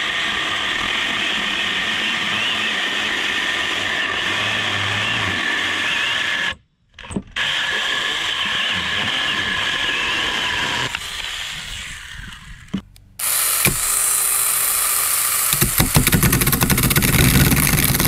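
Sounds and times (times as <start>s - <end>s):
mini chainsaw cutting wood: 0.0s - 6.6s, 7.4s - 18.0s
chainsaw cutting plastic pipe: 0.0s - 18.0s.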